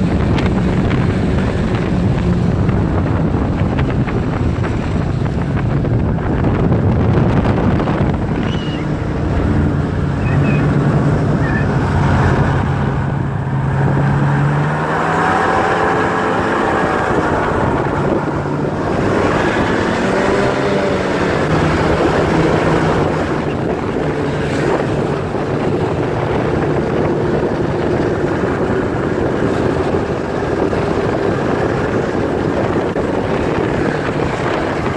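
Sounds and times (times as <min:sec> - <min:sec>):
snowmobile engines running: 0:00.0 - 0:34.9
wind on microphone: 0:00.0 - 0:34.9.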